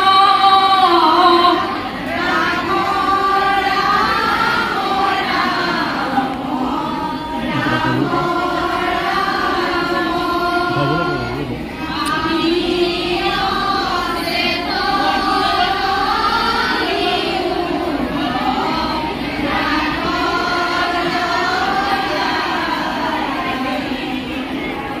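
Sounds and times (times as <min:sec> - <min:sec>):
women singing together: 0:00.0 - 0:25.0.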